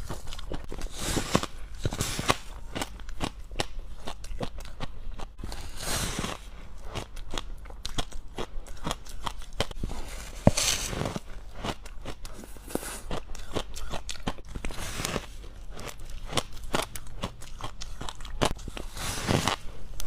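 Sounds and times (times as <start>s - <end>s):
crunching and chewing ice: 0.0s - 20.0s.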